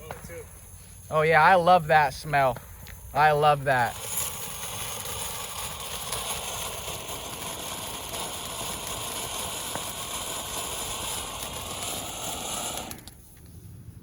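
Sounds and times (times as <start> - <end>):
firework fountain spraying hiss: 0.0 - 13.8.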